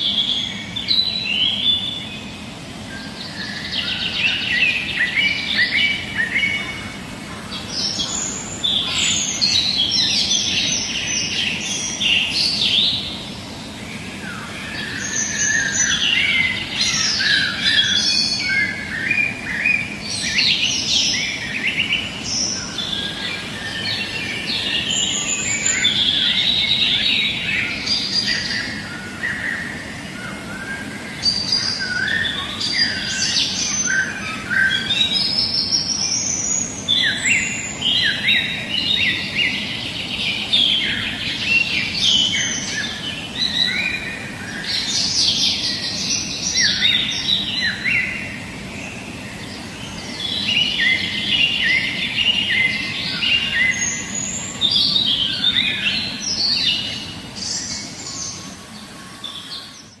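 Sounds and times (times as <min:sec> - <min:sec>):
songbirds chirping and trilling: 0:00.0 - 1:00.0.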